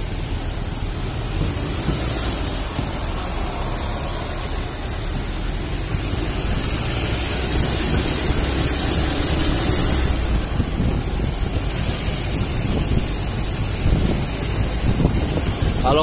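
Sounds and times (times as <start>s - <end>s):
car engine and road rumble: 0.0s - 16.0s
wind on microphone: 1.4s - 16.0s.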